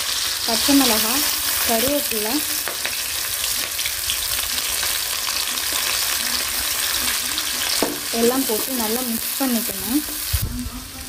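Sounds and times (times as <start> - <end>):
frying hiss in hot oil: 0.0 - 11.0.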